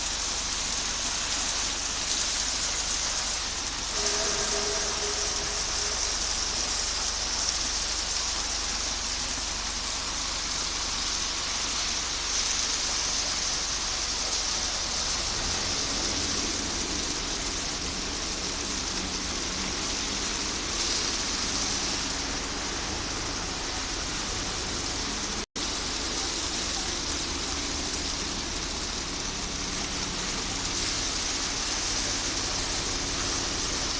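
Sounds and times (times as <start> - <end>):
concrete mixer engine drone: 0.0 - 33.9
concrete mixer hiss: 0.0 - 33.9.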